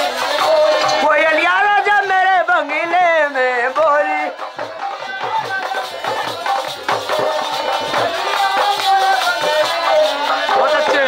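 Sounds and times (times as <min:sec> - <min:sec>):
fast steady drum beat: 0:00.0 - 0:11.0.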